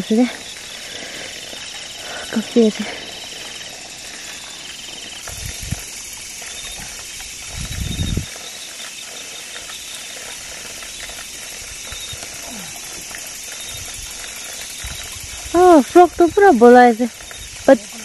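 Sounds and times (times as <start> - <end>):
insects chorus with pulsing trill: 0.0 - 18.0
rustling in wet grass and water: 0.0 - 18.0.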